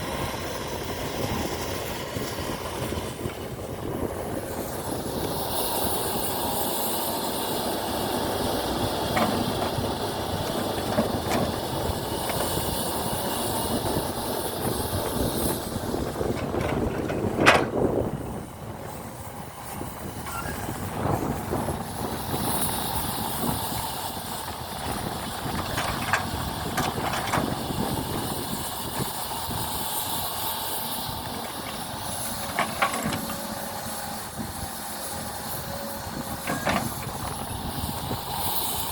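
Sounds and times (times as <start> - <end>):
excavator running with hiss: 0.0 - 38.9.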